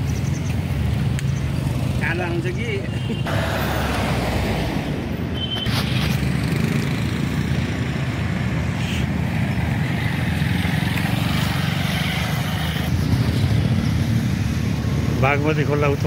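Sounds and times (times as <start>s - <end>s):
motorcycles passing close by: 0.0s - 16.0s.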